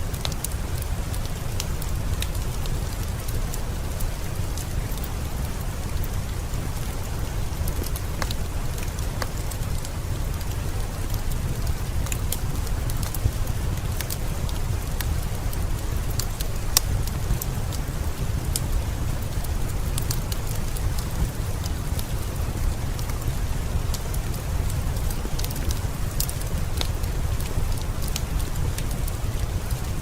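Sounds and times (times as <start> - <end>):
heavy rain falling: 0.0 - 30.0
wood fire crackling and popping: 0.0 - 30.0.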